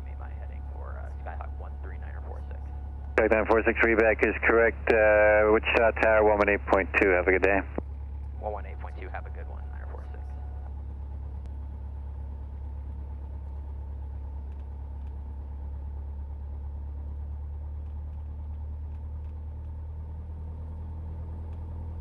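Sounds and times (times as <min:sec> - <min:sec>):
plane engine and propeller droning: 0:00.0 - 0:22.0.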